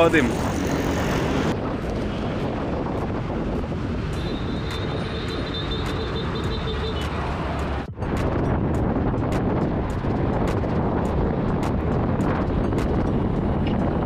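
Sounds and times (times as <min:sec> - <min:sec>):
road traffic: 0:00.0 - 0:14.0
wind rumbling on microphone: 0:00.0 - 0:14.0.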